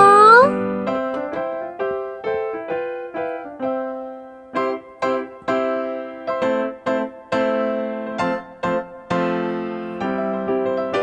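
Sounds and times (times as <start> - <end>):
gentle piano-like keyboard melody: 0.0 - 11.0.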